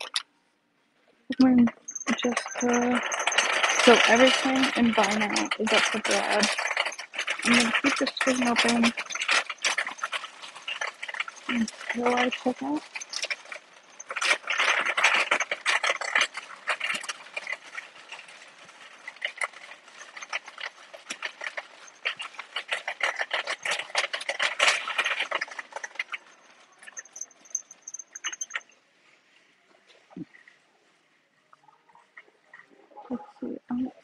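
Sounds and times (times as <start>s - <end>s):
shopping cart rattling on tiles: 1.4s - 29.4s.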